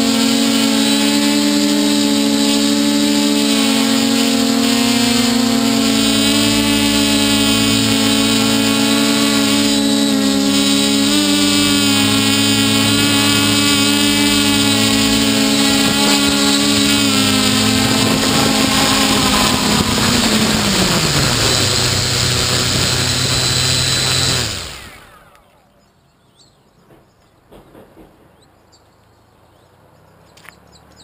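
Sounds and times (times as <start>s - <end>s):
drone motors and propellers: 0.0s - 25.8s.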